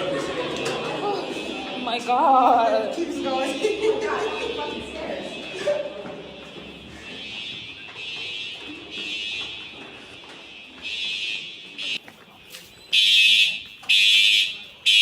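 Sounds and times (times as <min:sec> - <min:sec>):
fire alarm pulses: 0:00.0 - 0:12.0, 0:12.9 - 0:15.0.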